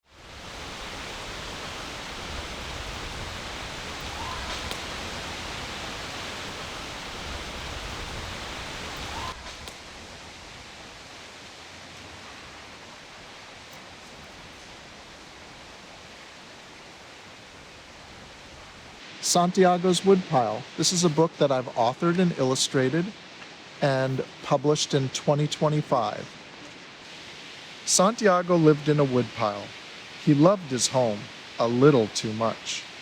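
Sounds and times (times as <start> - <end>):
wind blowing through trees: 0.0 - 33.0.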